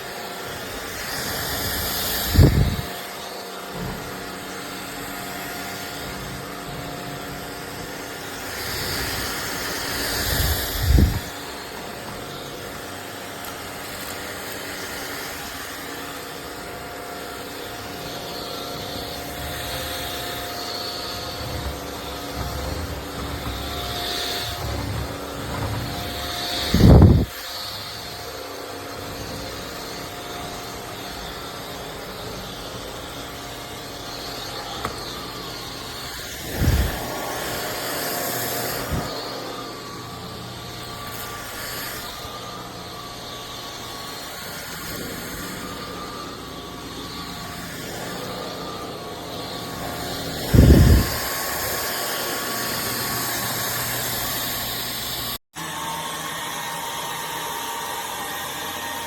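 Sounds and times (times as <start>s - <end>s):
stick vacuum running: 0.0s - 59.0s.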